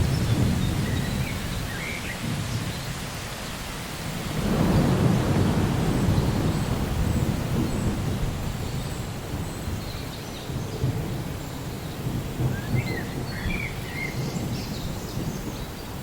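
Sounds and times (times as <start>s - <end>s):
distant thunder rumble: 0.0s - 3.1s, 4.2s - 16.0s
rain: 0.0s - 16.0s.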